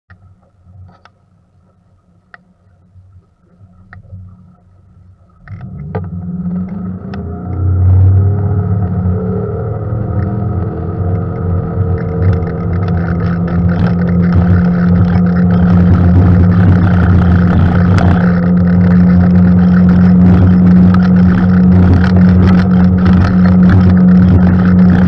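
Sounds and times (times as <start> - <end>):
outboard engine accelerating: 0.3 - 25.0.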